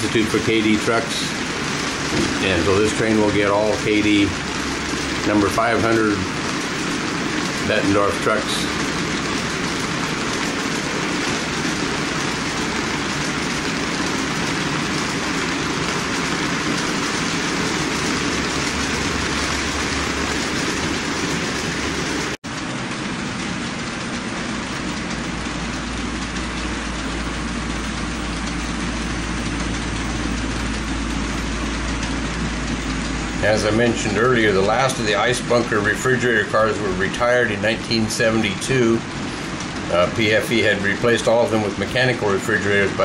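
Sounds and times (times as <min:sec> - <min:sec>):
low motor hum: 0:00.0 - 0:43.0
model train wheels rolling on rails: 0:00.0 - 0:43.0.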